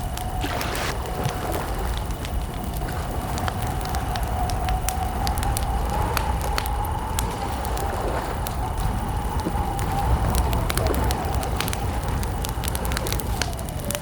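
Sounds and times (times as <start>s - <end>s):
campfire crackling and popping: 0.0s - 14.0s
low rumble: 0.0s - 14.0s.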